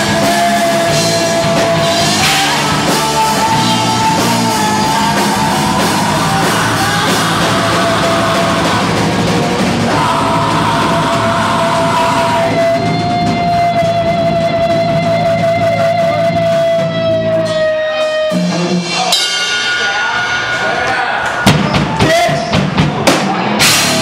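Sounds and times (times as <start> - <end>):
distorted guitar: 0.0 - 24.0
drums: 0.0 - 24.0
rock band playing loudly: 0.0 - 24.0.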